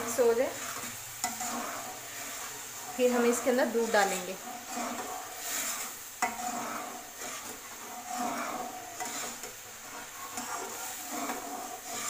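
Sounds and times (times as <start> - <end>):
liquid simmering: 0.0 - 12.0
metal spatula scraping a pan: 0.0 - 12.0.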